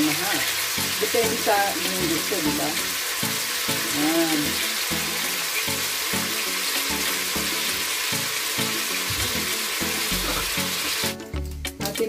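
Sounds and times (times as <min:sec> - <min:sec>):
background music: 0:00.0 - 0:12.0
food sizzling in a pot: 0:00.0 - 0:12.0.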